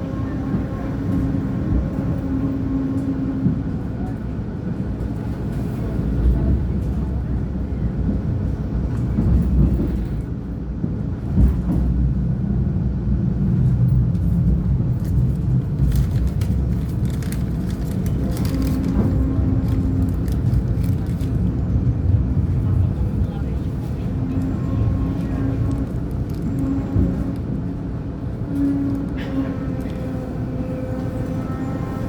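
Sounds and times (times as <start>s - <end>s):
diesel railcar rumbling: 0.0s - 32.0s.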